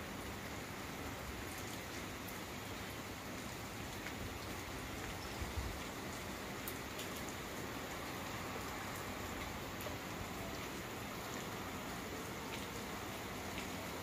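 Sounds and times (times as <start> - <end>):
rain falling on water and leaves: 0.0 - 14.0.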